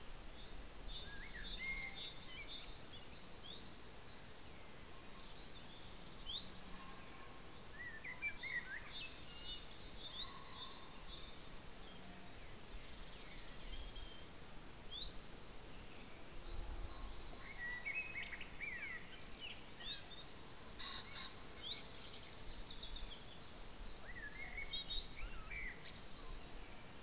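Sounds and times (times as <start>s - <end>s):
background hiss: 0.0s - 27.0s.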